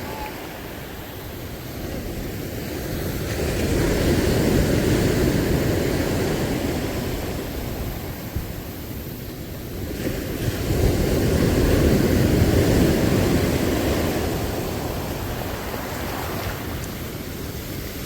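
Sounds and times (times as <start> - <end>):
sea waves washing onto shore: 0.0 - 18.0
wind rumbling on microphone: 0.0 - 18.0.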